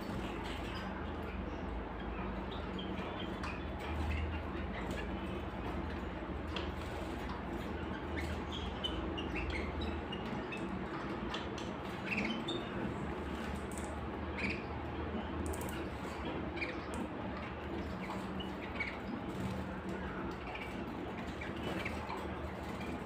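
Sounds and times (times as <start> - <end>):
canaries chirping: 0.0 - 23.0
steady low hum: 0.0 - 23.0.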